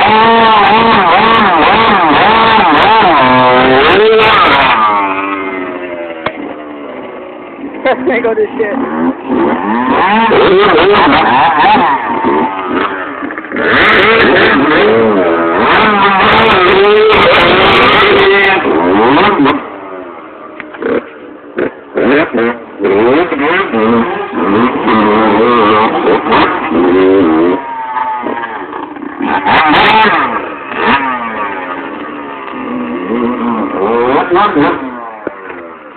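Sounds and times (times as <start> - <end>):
dirt bike engines revving: 0.0 - 35.9.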